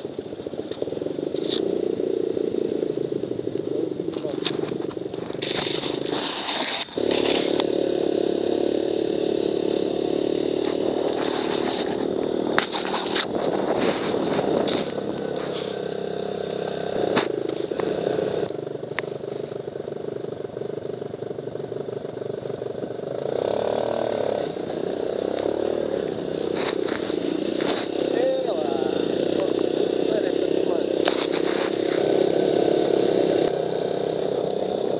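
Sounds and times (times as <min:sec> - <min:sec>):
buggy engine running: 0:00.0 - 0:34.9.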